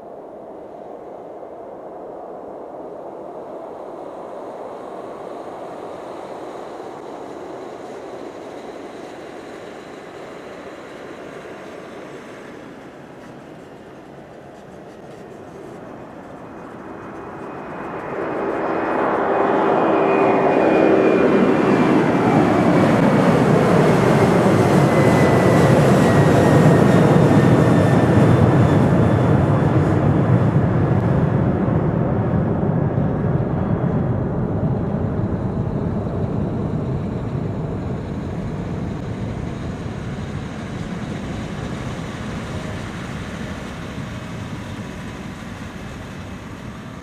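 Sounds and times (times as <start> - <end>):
engine whine: 0.0 - 47.0
jet engines roaring: 2.9 - 47.0.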